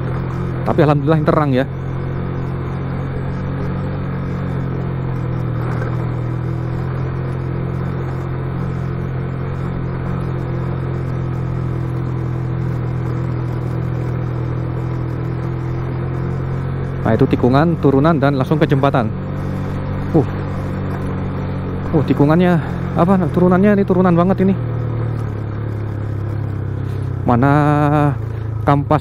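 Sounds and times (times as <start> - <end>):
motorcycle engine running: 0.0 - 29.0
rush of wind while riding: 0.0 - 29.0.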